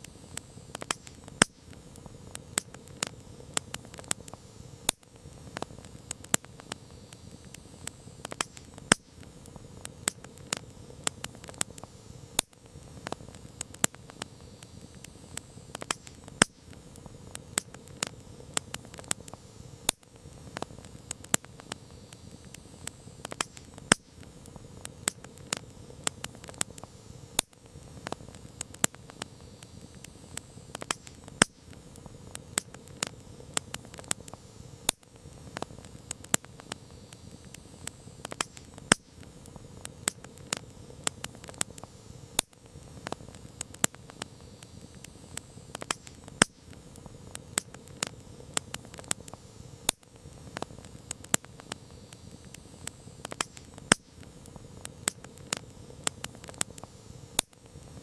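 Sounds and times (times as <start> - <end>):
campfire crackling and popping: 0.0 - 58.0
low rush of flames: 0.0 - 58.0.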